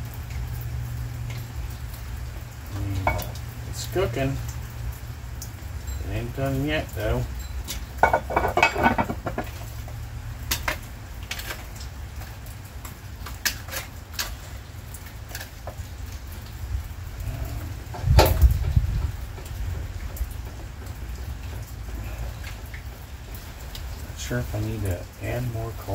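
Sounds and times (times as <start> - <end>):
heavy rain: 0.0 - 25.9.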